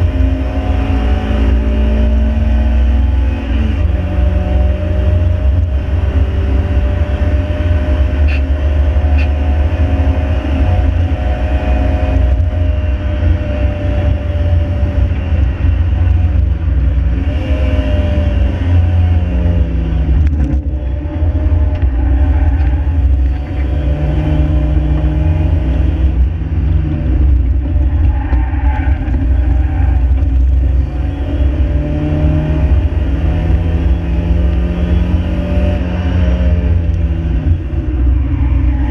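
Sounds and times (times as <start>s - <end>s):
car engine revving: 0.0s - 38.9s
road and wind rumble: 0.0s - 38.9s.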